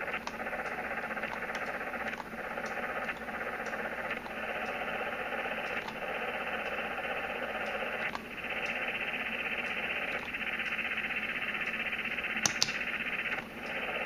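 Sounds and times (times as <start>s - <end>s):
radio receiver hiss: 0.0s - 14.0s.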